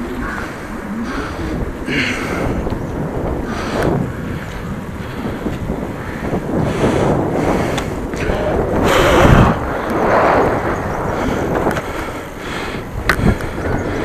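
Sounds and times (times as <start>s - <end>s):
road noise: 0.0s - 13.8s
wind buffeting microphone: 0.0s - 14.0s.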